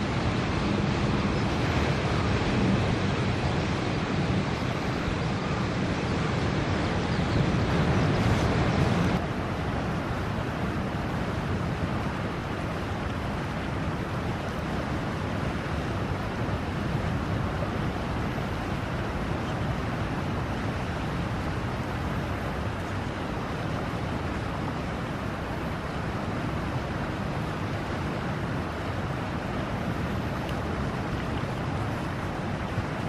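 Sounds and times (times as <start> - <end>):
steady outdoor rushing noise: 0.0 - 33.0.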